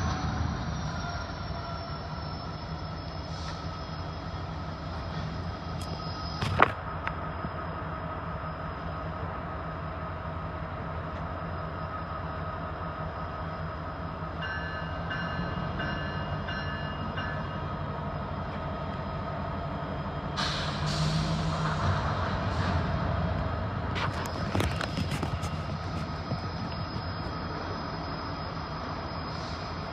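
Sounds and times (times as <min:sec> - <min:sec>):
diesel locomotive idling rumble: 0:00.0 - 0:29.9.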